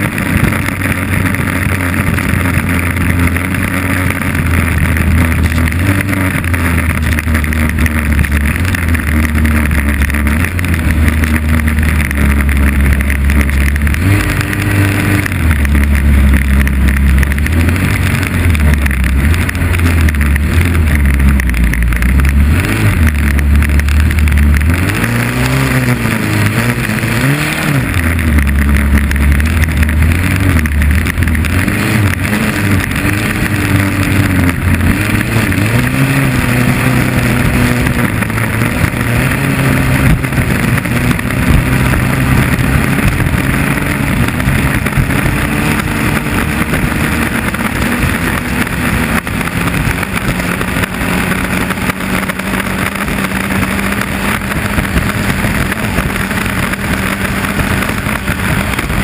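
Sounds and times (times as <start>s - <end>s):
boat engine running hard: 0.0s - 59.0s
wind and water noise: 0.0s - 59.0s.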